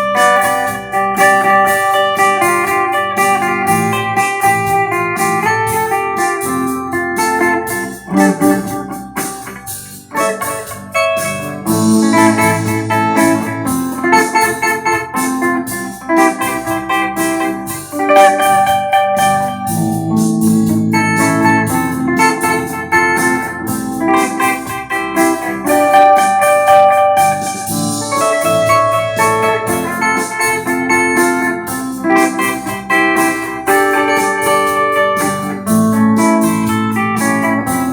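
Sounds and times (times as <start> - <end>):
clean electric guitar: 0.0 - 37.9
keyboard accompaniment: 0.0 - 37.9.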